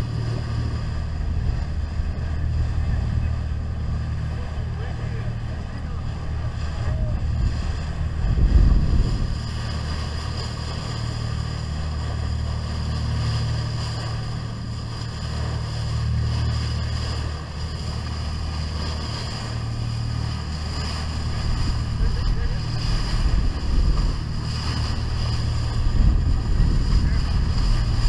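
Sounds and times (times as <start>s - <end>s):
boat engine humming: 0.0s - 28.0s
bow wave splashing along hull: 0.0s - 28.0s
wind buffeting microphone: 5.3s - 28.0s.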